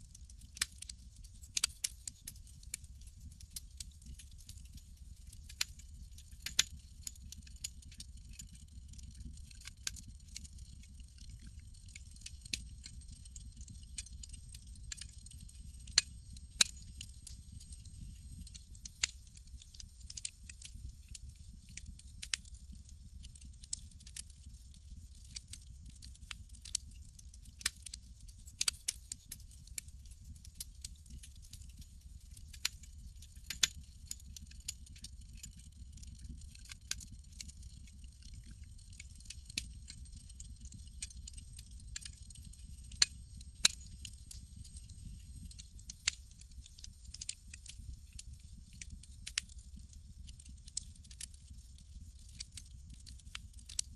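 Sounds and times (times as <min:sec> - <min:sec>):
campfire crackling and popping: 0:00.3 - 0:53.8
low fire rumble: 0:00.3 - 0:53.8.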